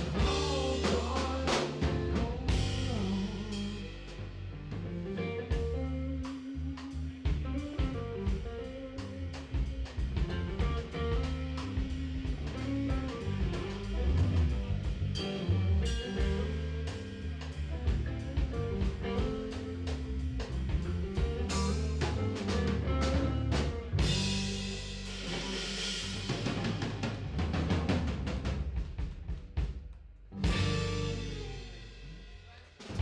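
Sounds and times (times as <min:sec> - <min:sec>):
electric guitar: 0:00.0 - 0:28.4, 0:30.4 - 0:32.2
bass: 0:00.0 - 0:33.0
drum kit: 0:00.0 - 0:33.0.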